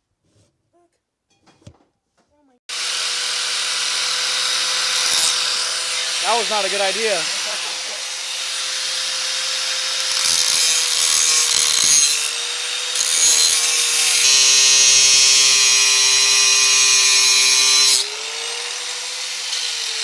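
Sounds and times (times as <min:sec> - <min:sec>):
angle grinder cutting metal: 0:02.7 - 0:20.0.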